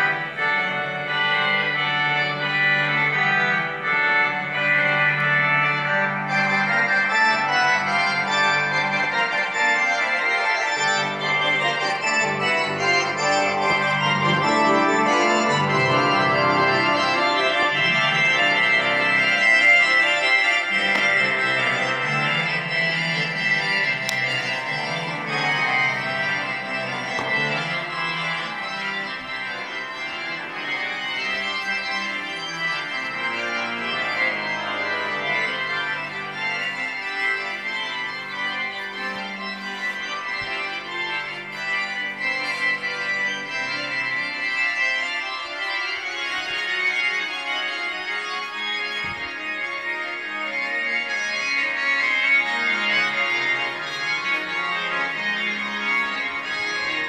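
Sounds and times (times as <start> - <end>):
sustained organ-like keyboard chords: 0.0 - 57.0.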